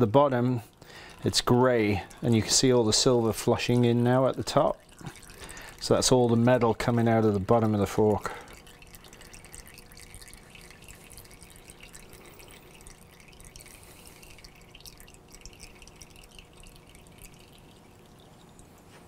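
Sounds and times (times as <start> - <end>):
oil trickling into jug: 0.0 - 19.0.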